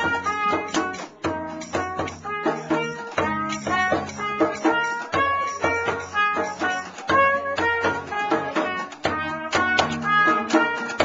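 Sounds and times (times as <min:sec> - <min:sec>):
strummed guitar chords: 0:00.0 - 0:11.0
trumpet: 0:00.0 - 0:11.0.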